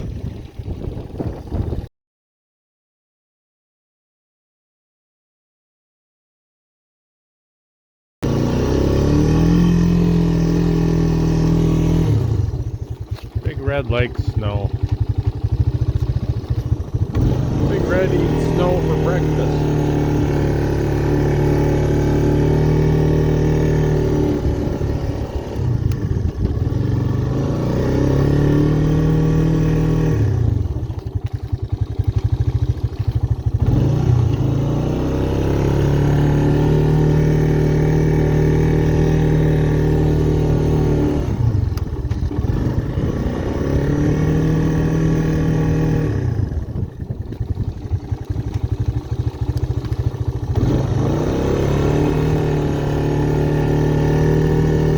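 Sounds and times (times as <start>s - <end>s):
three-wheeler engine revving: 0.0s - 1.8s, 8.2s - 54.9s.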